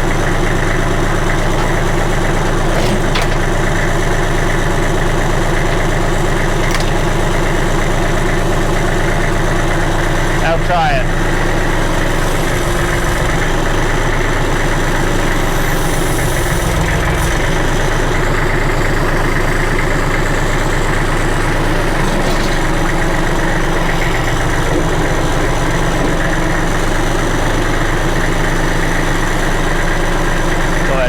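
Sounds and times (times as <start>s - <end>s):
backhoe engine idling: 0.0s - 31.0s.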